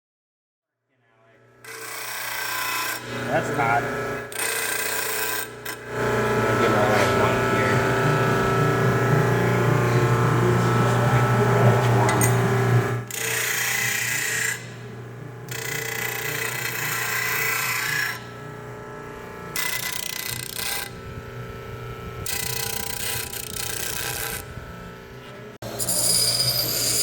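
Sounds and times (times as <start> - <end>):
power tool working metal: 1.4 - 27.0
steady low hum: 2.8 - 13.1, 14.2 - 25.6.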